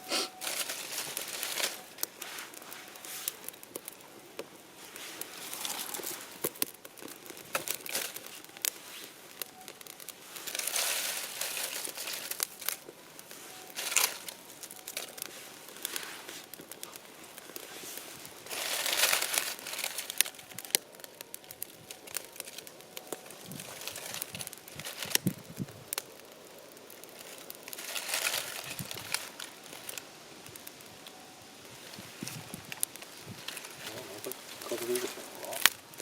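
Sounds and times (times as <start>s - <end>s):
crinkling and rustling: 0.0s - 36.0s.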